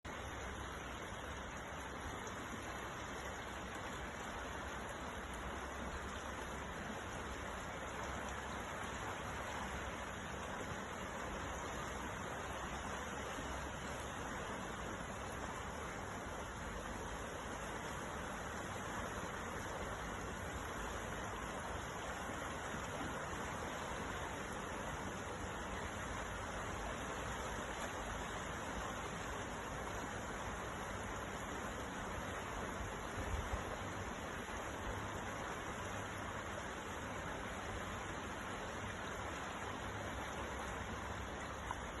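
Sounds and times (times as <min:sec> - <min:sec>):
sea waves: 0:00.0 - 0:42.0
wind: 0:00.0 - 0:42.0.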